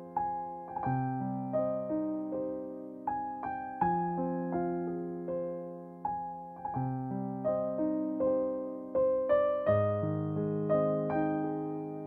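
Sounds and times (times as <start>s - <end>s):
gentle solo piano: 0.0s - 12.0s.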